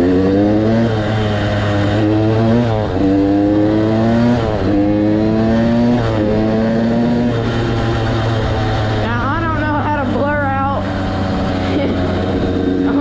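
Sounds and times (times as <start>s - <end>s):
two-stroke motorbike engine at full throttle: 0.0s - 13.0s.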